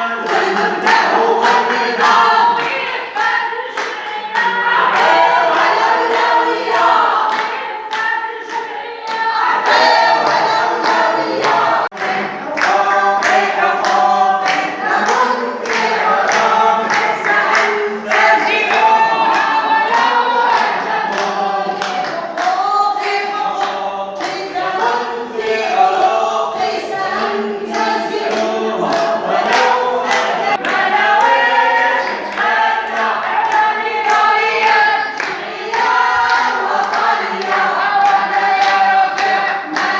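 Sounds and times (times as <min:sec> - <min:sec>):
crowd chanting in unison: 0:00.0 - 0:39.9
hand clapping: 0:00.2 - 0:39.9.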